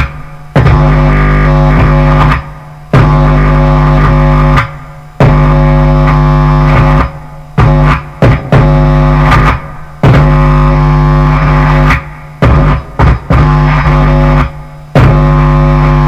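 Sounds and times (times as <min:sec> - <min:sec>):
distorted bass guitar notes: 0:00.0 - 0:16.0.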